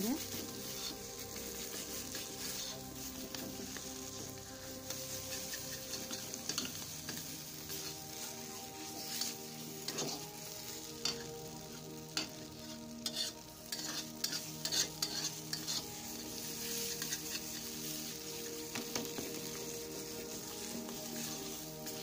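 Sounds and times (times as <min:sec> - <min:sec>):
paste sizzling in oil: 0:00.0 - 0:22.0
metal spatula scraping iron pan: 0:00.4 - 0:08.2, 0:12.2 - 0:22.0.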